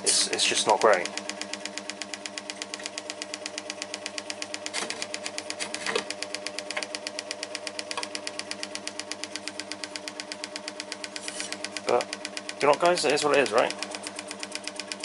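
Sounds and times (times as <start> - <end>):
scroll saw running: 0.0 - 15.0.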